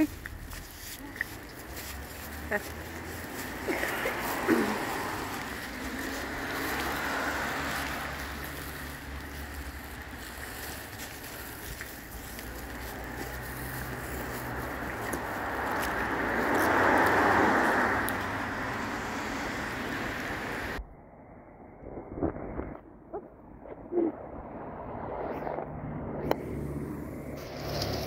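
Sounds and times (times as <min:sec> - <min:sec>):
steady outdoor rushing noise: 0:00.0 - 0:28.0.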